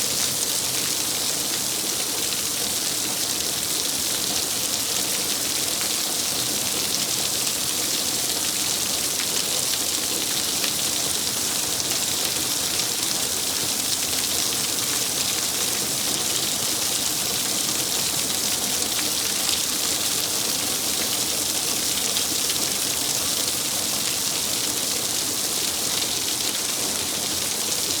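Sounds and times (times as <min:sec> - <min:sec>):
rain falling steadily: 0:00.0 - 0:28.0.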